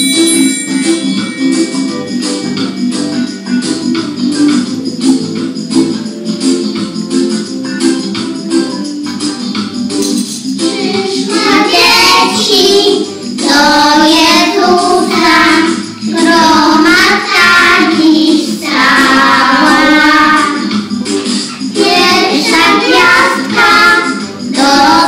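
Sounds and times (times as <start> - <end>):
children's song singing: 0.0 - 25.0
instrumental backing track: 0.0 - 25.0.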